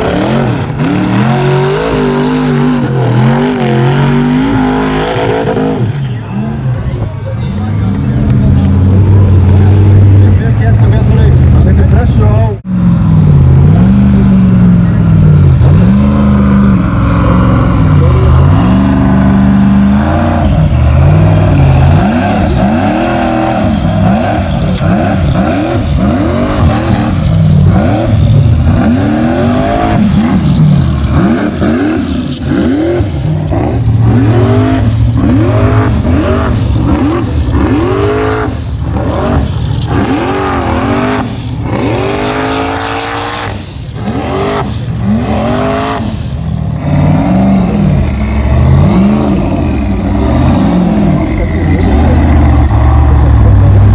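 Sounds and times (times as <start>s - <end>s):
truck engine revving hard: 0.0s - 53.9s.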